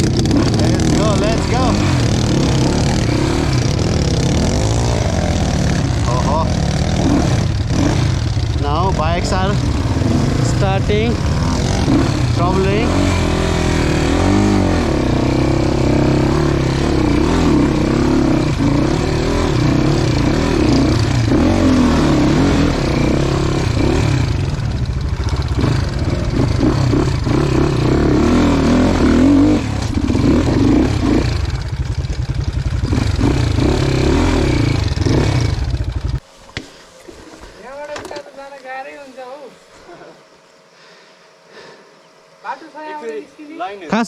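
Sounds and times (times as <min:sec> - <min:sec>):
dirt bike engine revving: 0:00.0 - 0:36.2.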